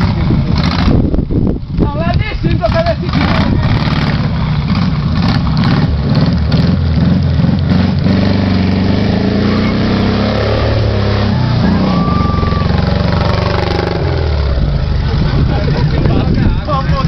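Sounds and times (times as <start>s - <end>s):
buggy engine revving: 0.0s - 17.0s
buggy driving through puddle: 2.7s - 17.0s.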